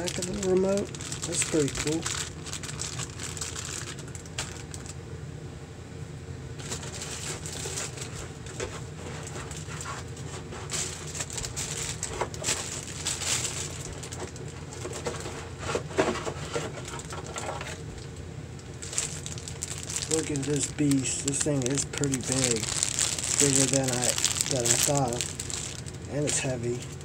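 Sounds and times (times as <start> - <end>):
plastic bag crinkling: 0.0 - 5.0, 6.6 - 27.0
steady low hum: 0.0 - 27.0.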